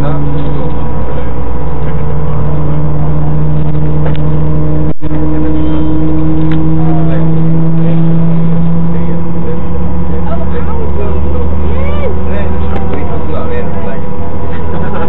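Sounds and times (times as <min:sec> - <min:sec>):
aircraft engines droning: 0:00.0 - 0:15.0
steady hums: 0:00.0 - 0:15.0.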